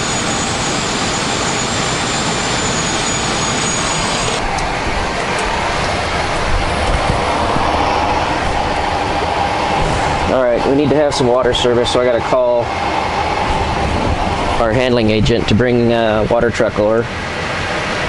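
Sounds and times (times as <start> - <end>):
aircraft auxiliary power unit rushing: 0.0 - 18.0.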